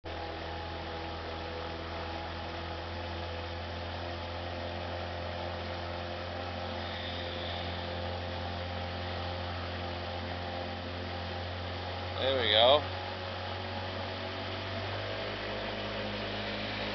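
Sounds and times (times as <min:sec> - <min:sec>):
motorboat engine running: 0:00.0 - 0:16.9.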